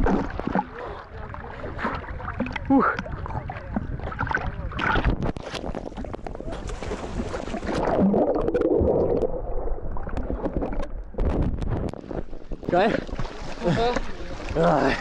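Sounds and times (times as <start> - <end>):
muffled underwater sound: 0.0 - 15.0
water sloshing against camera: 0.0 - 15.0.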